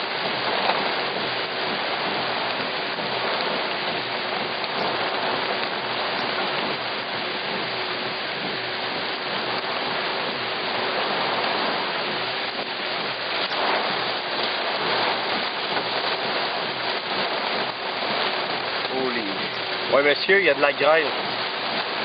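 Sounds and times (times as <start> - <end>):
hail hits: 0.0 - 22.0
heavy rain hiss: 0.0 - 22.0.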